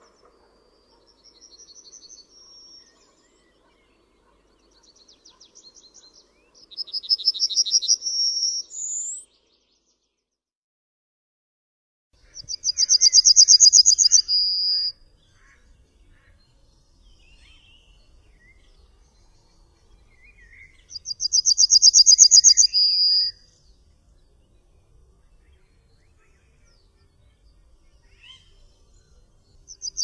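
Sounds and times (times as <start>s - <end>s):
faint bird chirps: 0.0s - 10.0s, 12.2s - 30.0s
yellowhammer singing: 0.9s - 9.7s, 12.2s - 30.0s.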